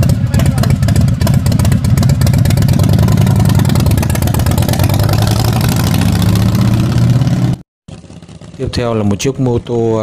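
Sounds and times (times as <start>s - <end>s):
motorcycle engine pulling away: 0.0s - 10.0s.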